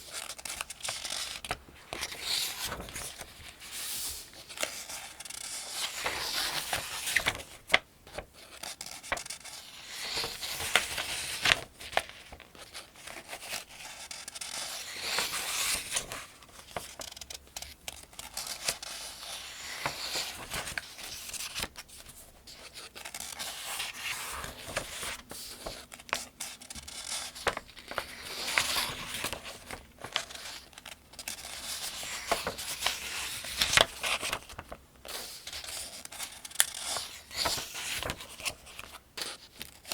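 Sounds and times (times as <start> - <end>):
paper pages turning: 0.0 - 39.9.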